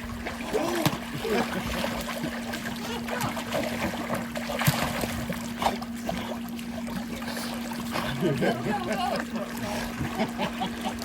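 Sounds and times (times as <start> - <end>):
steady low hum: 0.0 - 11.0
water splashing and lapping: 0.0 - 11.0.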